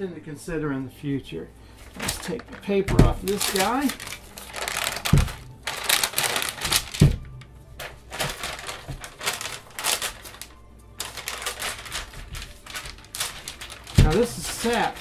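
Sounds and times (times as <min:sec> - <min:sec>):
paper crackling and rustling: 0:01.8 - 0:15.0.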